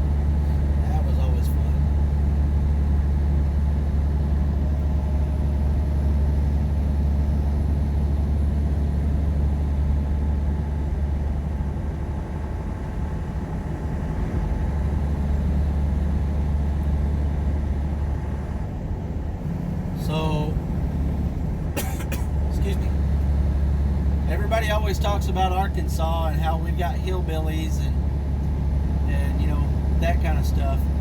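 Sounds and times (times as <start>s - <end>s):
diesel truck engine drone: 0.0s - 31.0s
road noise: 0.0s - 31.0s.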